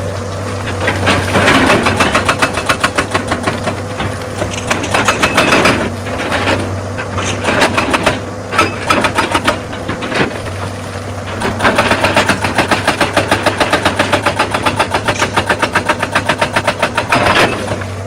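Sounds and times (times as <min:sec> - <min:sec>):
excavator engine running: 0:00.0 - 0:18.0
rock grinding and striking steel: 0:00.7 - 0:18.0.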